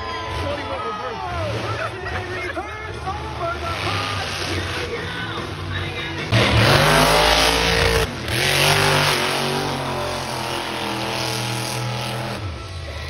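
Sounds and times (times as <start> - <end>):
truck engine revving: 1.5 - 13.0.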